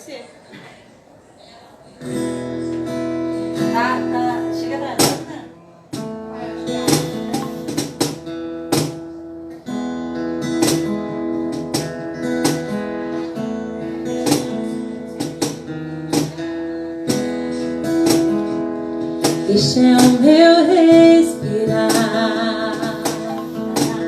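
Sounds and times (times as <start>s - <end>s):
acoustic guitar strumming chords: 2.0s - 24.0s.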